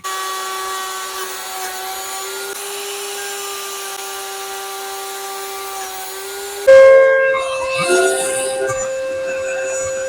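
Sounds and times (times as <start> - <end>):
electric router cutting wood: 0.0 - 10.0.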